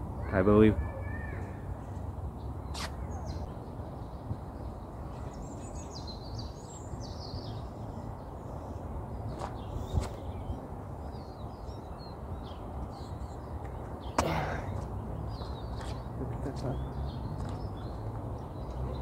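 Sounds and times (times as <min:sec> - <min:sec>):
birds chirping faintly: 0:00.2 - 0:19.0.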